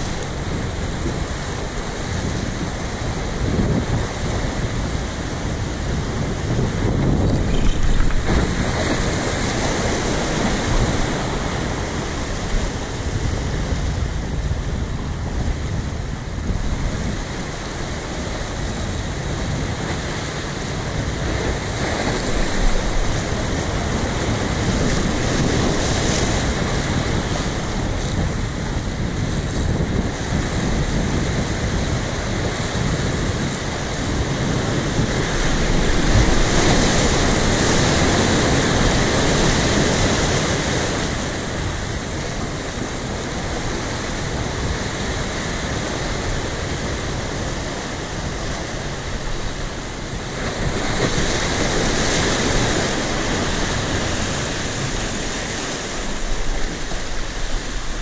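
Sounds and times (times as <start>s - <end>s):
sea waves breaking on rocks: 0.0s - 58.0s.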